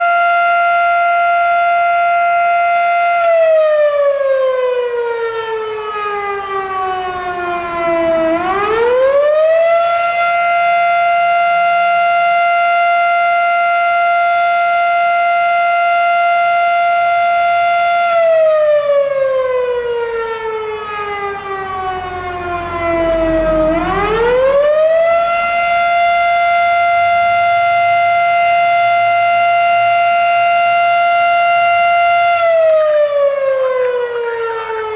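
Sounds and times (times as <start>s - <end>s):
fire siren wailing: 0.0s - 34.9s.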